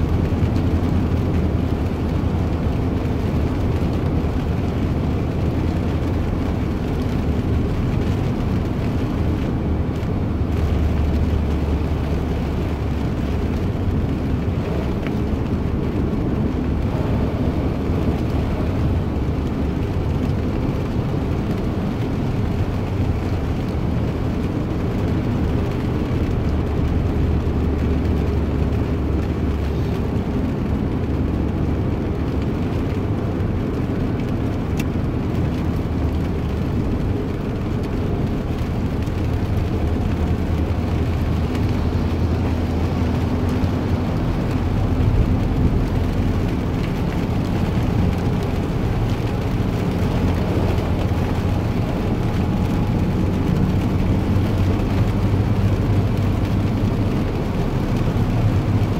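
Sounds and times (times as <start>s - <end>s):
vehicle low rumble: 0.0s - 58.9s.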